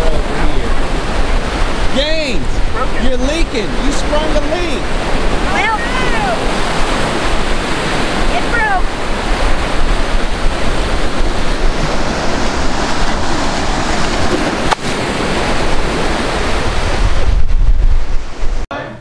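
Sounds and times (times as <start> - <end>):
wind buffeting microphone: 0.0 - 18.6
ocean surf rushing: 0.0 - 18.7.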